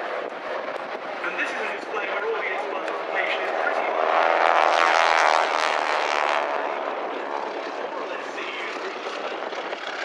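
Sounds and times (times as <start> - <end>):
biplane engines droning: 0.0 - 10.0.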